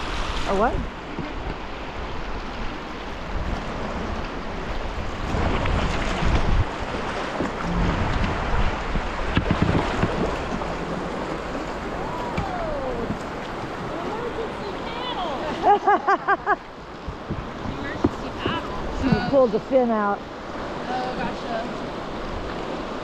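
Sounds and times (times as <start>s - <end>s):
rushing river water: 0.0s - 23.0s
wind buffeting microphone: 0.0s - 23.0s.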